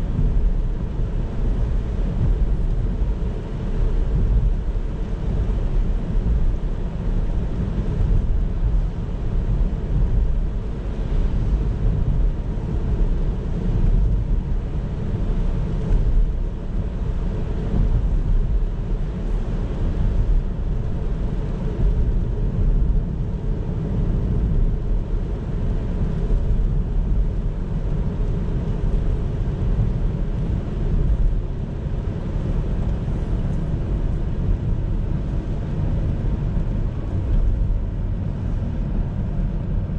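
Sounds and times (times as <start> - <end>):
car interior road rumble: 0.0 - 39.9.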